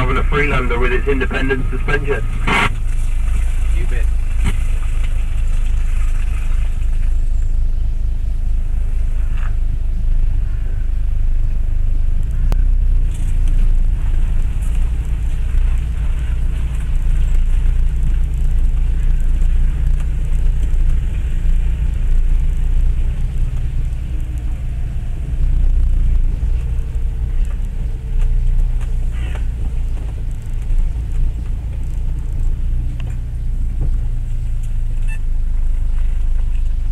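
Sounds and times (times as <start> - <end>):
car rumbling on rough ground: 0.0 - 36.9.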